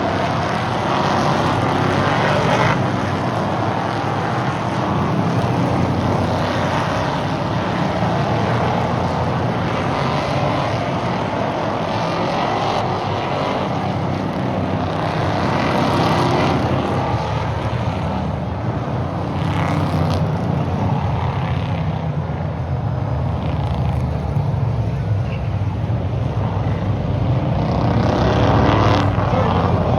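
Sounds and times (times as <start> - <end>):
racing car engines droning: 0.0 - 29.9.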